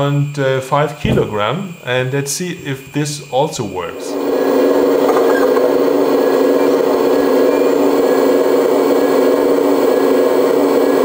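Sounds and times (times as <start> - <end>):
hydraulic pump humming: 0.9 - 11.0.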